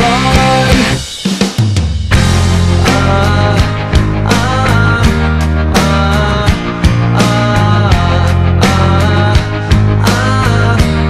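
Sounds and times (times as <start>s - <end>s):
instrumental rock music: 0.0s - 11.0s.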